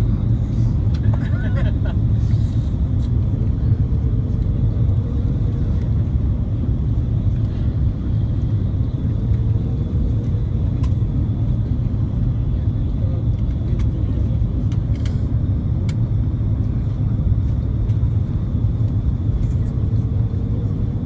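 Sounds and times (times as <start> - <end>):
aircraft cabin engine rumble: 0.0 - 21.0.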